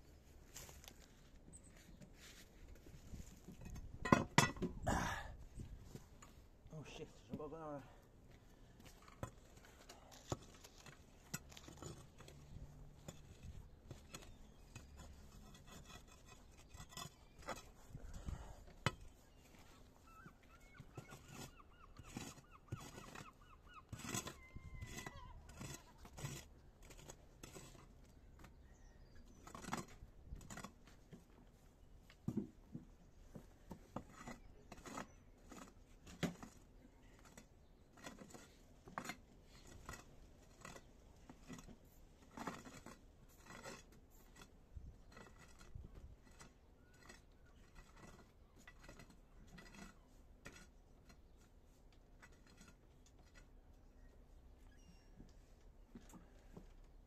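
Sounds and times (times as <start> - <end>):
hand tool digging soil: 8.6 - 57.0.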